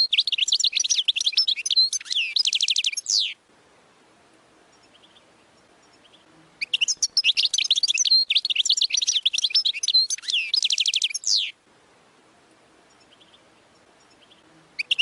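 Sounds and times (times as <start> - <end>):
goldfinch singing: 0.0 - 3.4, 4.7 - 11.6, 12.8 - 15.0.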